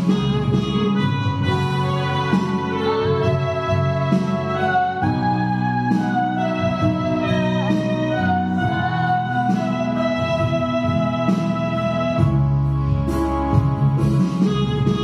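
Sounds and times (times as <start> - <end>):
electronic keyboard playing slow tune: 0.0 - 15.0.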